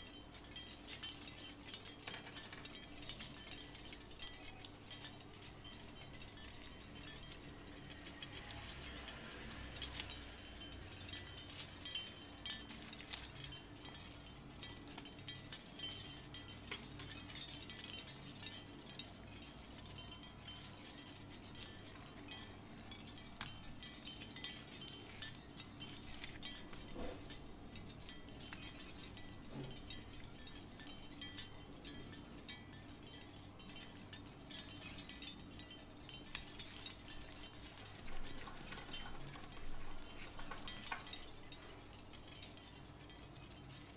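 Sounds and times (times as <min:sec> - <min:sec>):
small metal parts tinkling: 0:00.0 - 0:43.9.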